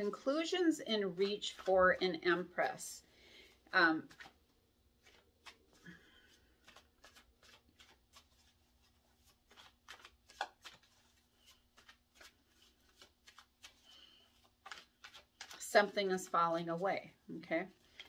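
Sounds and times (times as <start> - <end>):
cards shuffling and clicking: 0.6 - 2.9, 3.5 - 16.4, 17.7 - 18.0.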